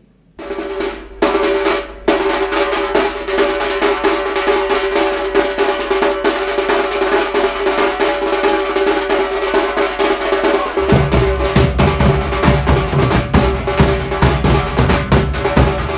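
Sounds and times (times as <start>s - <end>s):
barrel drums beaten with sticks: 0.4s - 15.9s.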